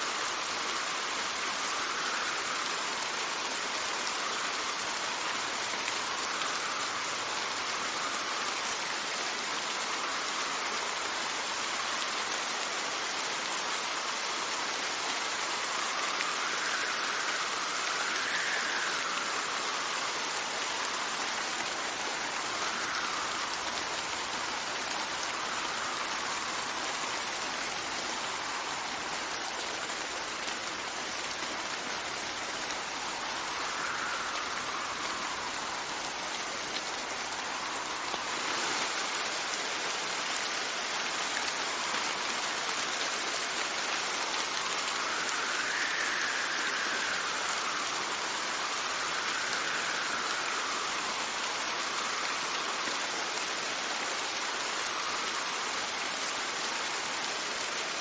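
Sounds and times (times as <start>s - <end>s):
heavy rain hissing: 0.0s - 58.0s
wind whistling in gusts: 0.1s - 11.9s, 15.2s - 40.9s, 44.4s - 53.6s.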